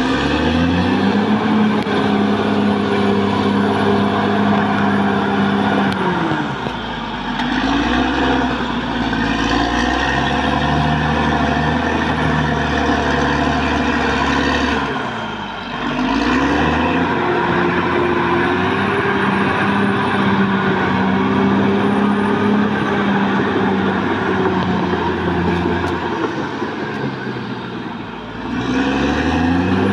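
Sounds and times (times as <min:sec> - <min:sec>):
bulldozer diesel engine running: 0:00.0 - 0:29.9.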